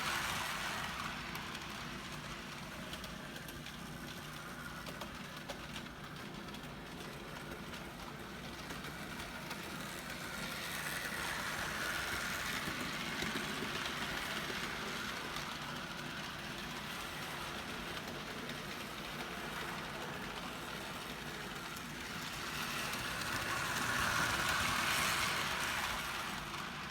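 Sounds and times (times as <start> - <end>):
model train motor hum: 0.0 - 26.9
model train wheels rolling: 0.0 - 26.9.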